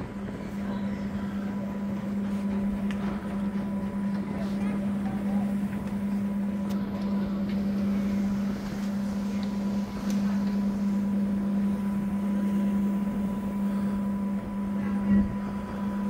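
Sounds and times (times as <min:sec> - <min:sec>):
ferry engine drone: 0:00.0 - 0:16.0.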